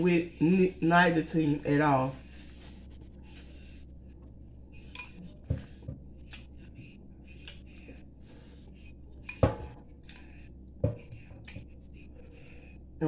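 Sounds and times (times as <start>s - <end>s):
soft chewing: 2.2s - 12.9s.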